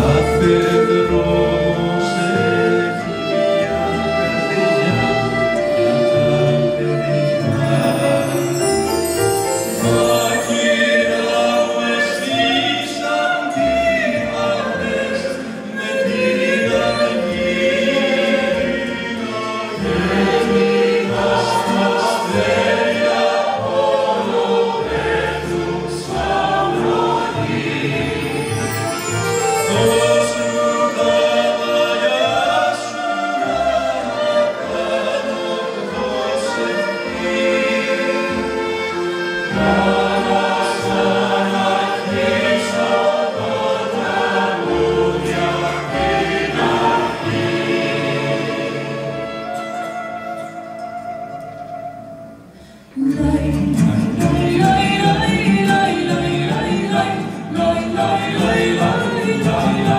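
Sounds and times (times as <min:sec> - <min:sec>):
mandolins and guitars playing: 0:00.0 - 0:34.8, 0:36.6 - 0:59.9
mixed choir singing: 0:00.0 - 0:49.8, 0:53.0 - 0:59.9.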